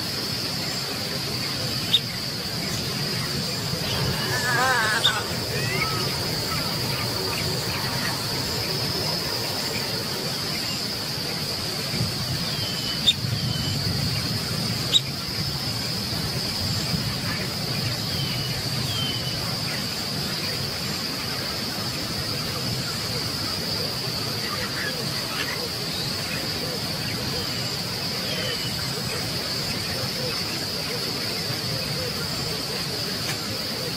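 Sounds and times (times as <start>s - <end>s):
insects droning: 0.0s - 33.9s.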